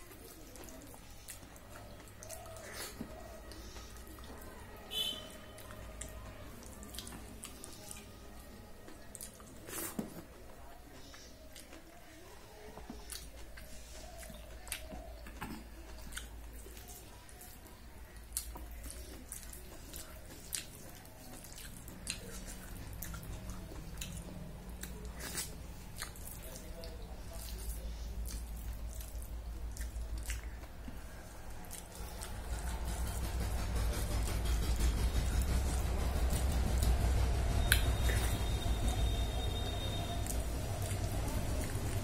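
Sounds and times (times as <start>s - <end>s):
person chewing: 0.0s - 8.2s, 8.8s - 37.0s, 37.6s - 42.0s
fingers squishing food: 0.0s - 42.0s.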